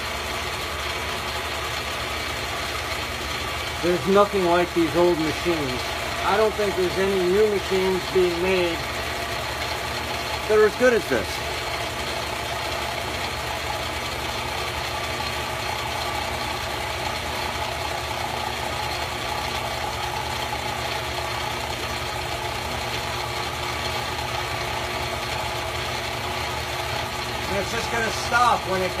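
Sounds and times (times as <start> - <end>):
milling machine running: 0.0 - 29.0.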